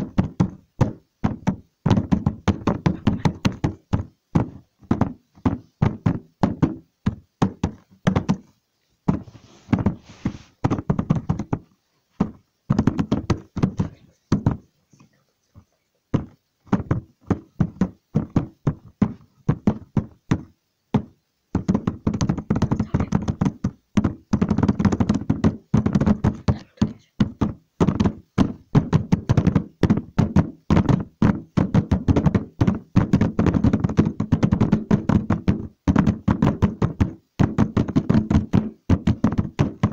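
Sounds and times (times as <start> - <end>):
rapid knocking and tapping: 0.0 - 14.7, 16.1 - 39.9.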